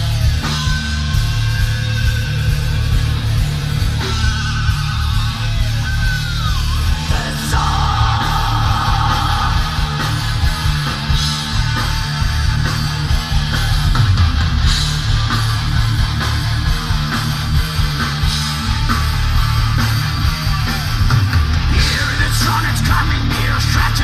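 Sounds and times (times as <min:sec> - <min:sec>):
live metal band playing: 0:00.0 - 0:24.0.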